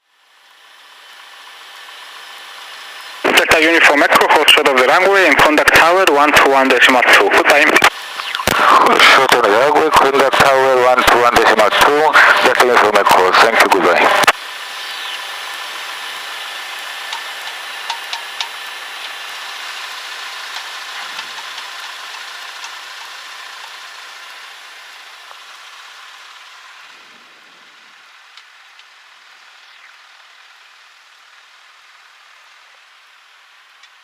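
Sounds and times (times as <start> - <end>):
aircraft engine hiss: 0.2 - 33.4.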